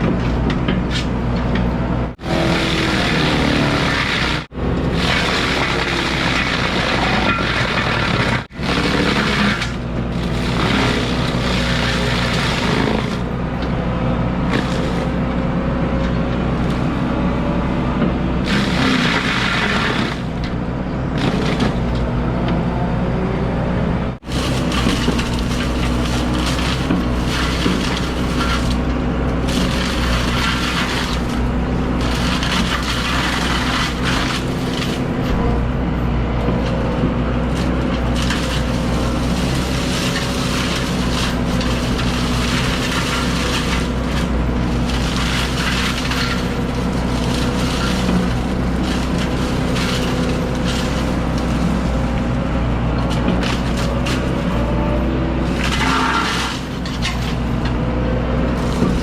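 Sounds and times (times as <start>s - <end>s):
excavator diesel engine: 0.0s - 59.0s
mulcher shredding brush and wood: 0.0s - 59.0s.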